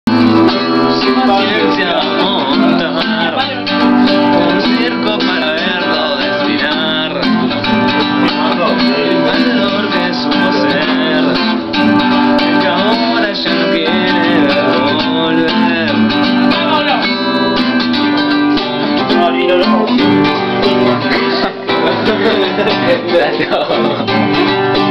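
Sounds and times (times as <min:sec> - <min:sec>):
acoustic guitar strumming: 0:00.1 - 0:24.9
voices singing: 0:00.1 - 0:24.9.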